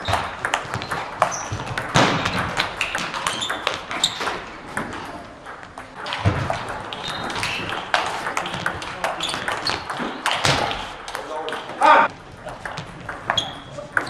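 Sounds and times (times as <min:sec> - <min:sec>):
table tennis balls clicking: 0:00.0 - 0:14.0.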